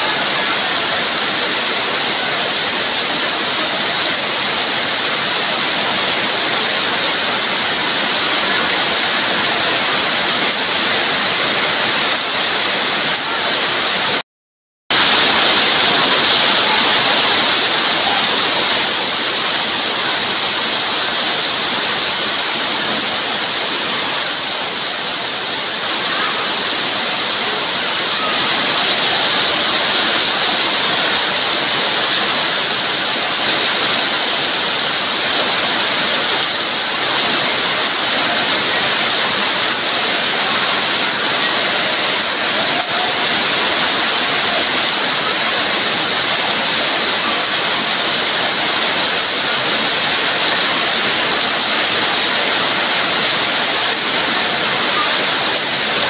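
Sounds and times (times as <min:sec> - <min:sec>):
heavy rain pouring: 0:00.0 - 0:14.3, 0:14.9 - 0:56.0.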